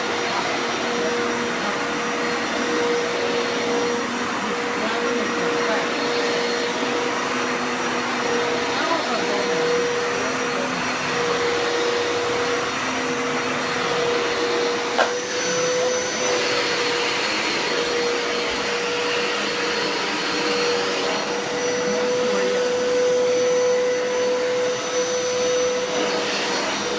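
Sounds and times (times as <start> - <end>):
carpet cleaner motor whine: 0.0 - 26.9.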